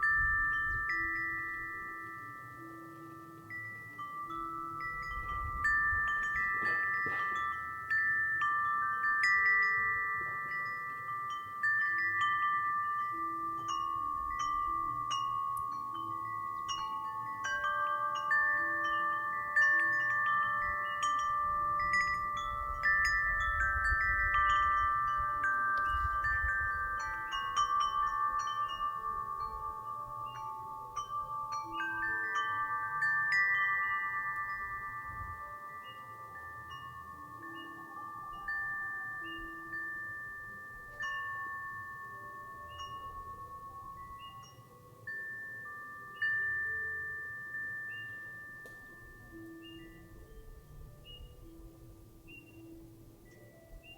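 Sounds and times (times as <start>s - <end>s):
wind chime ringing: 0.0s - 53.9s.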